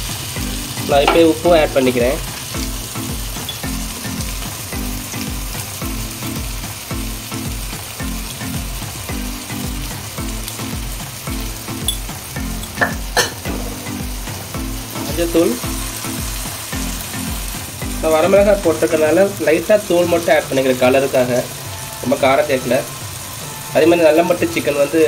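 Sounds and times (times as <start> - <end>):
background music with low beat: 0.0 - 25.0
food sizzling in a pan: 0.0 - 25.0.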